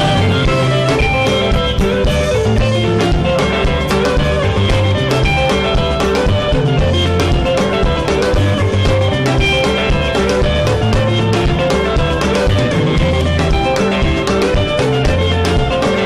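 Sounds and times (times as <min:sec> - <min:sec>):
bass guitar: 0:00.0 - 0:16.0
drum kit dance beat: 0:00.0 - 0:16.0
electric guitars: 0:00.0 - 0:16.0.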